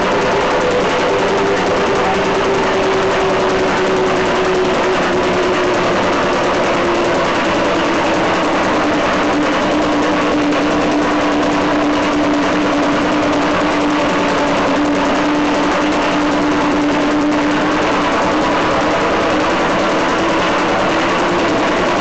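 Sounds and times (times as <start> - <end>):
drum ringing: 0.0 - 22.0.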